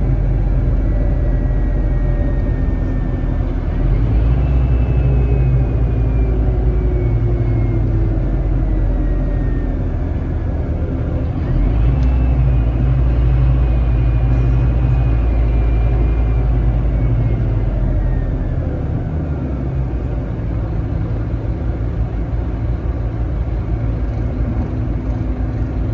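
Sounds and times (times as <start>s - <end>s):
bus diesel engine rumble: 0.0s - 25.9s.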